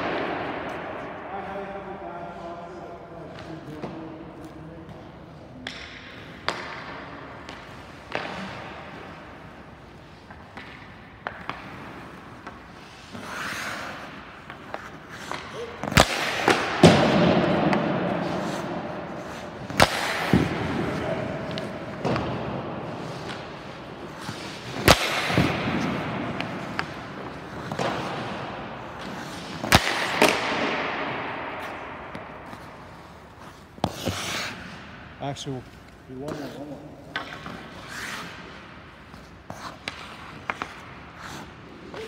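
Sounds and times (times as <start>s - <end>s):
hockey stick cracking against puck: 3.3s - 35.1s, 35.7s - 42.0s
skate blades scraping ice: 7.4s - 30.7s, 31.6s - 42.0s.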